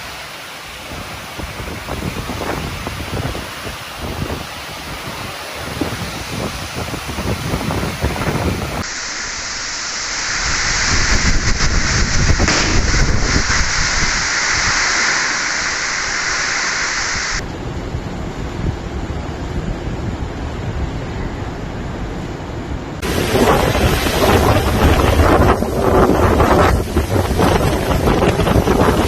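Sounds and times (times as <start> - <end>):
heavy rain and wind: 0.0 - 29.0.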